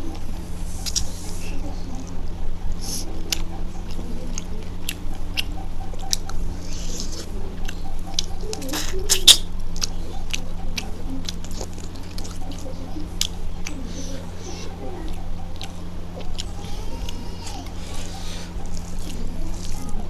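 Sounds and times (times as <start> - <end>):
close chewing with lip smacks: 0.0 - 20.0
steady low hum: 0.0 - 20.0.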